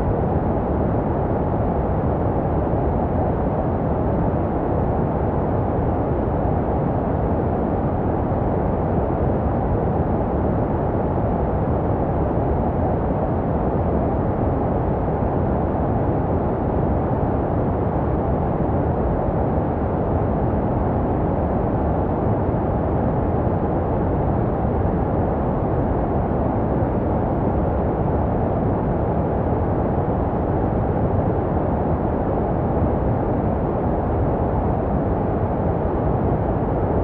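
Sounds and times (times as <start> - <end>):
muffled white noise hiss: 0.0 - 37.0.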